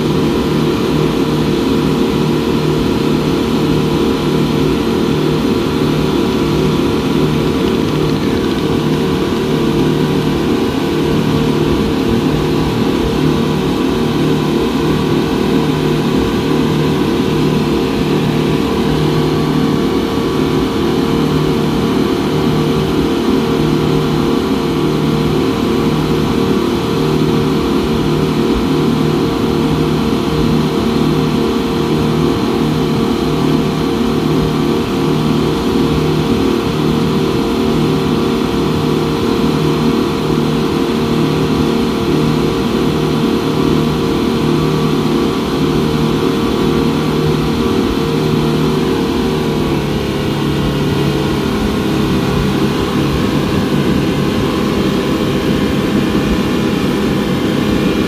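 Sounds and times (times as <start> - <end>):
outboard engines droning: 0.0 - 58.0.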